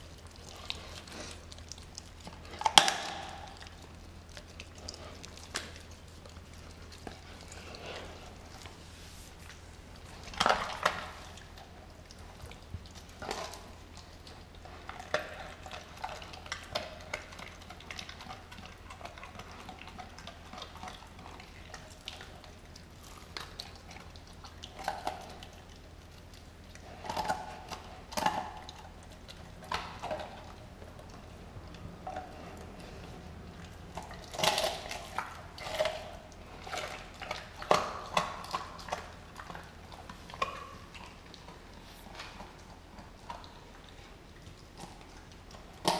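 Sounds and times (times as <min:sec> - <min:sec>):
dog chewing: 0:00.0 - 0:45.9
dog licking and gnawing meat: 0:00.0 - 0:45.9.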